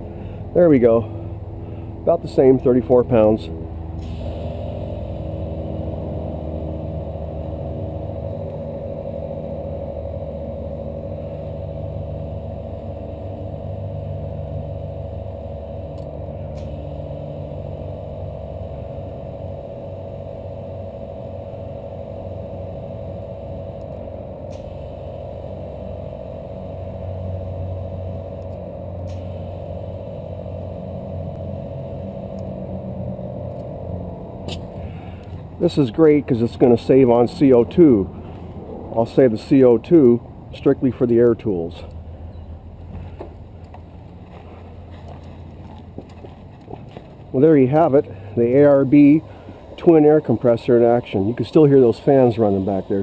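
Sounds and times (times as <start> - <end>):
air compressor humming: 0.0 - 53.0.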